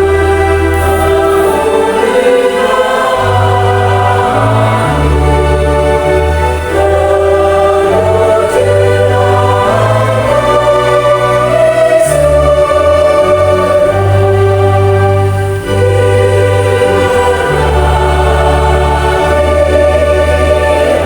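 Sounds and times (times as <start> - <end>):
choir singing in harmony: 0.0 - 21.0
church organ: 0.0 - 21.0.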